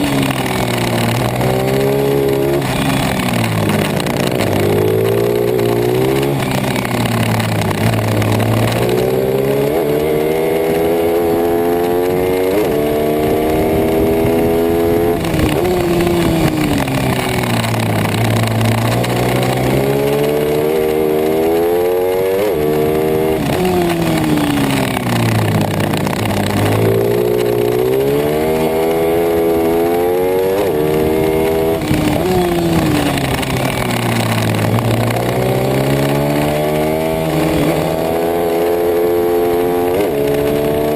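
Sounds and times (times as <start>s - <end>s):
motorbike engine revving through gears: 0.0s - 40.9s.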